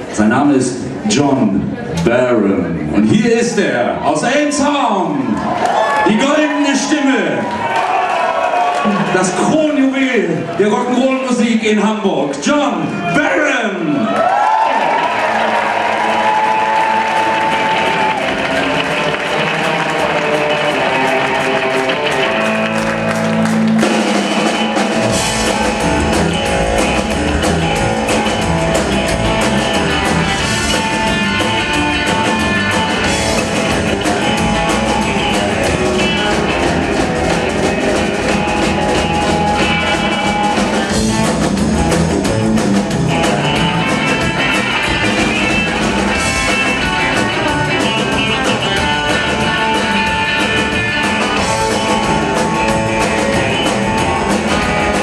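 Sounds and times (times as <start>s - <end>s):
rock and roll band playing: 0.0s - 55.0s.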